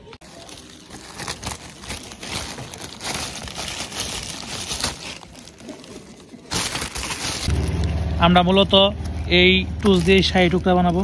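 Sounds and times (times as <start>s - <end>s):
plastic bag crinkling: 0.2s - 7.9s, 9.0s - 11.0s.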